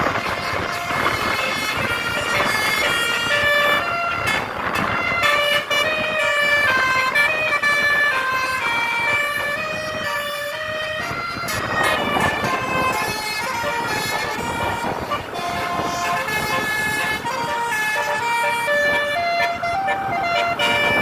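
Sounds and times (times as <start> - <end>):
bus musical horn playing a tune: 0.0 - 21.0.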